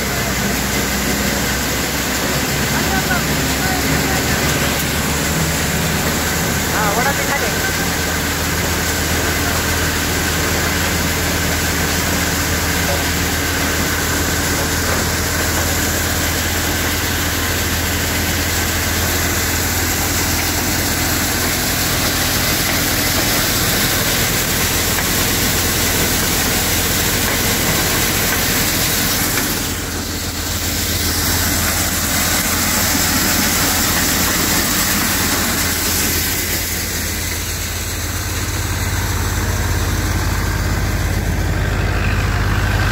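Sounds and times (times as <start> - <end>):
thresher running: 0.0 - 42.9.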